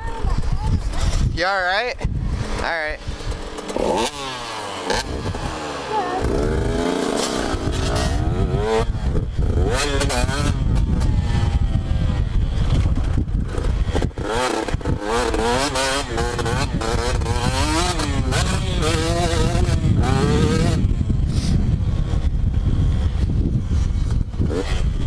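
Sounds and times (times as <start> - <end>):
dirt bike engine revving: 0.8 - 25.0.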